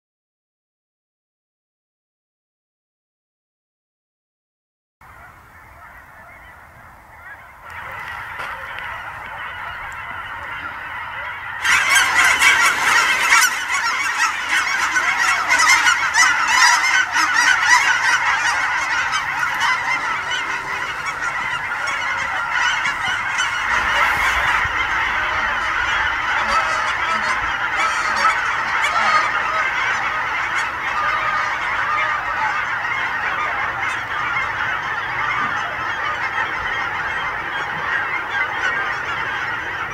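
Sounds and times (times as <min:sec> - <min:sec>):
geese honking: 0:05.0 - 0:39.9.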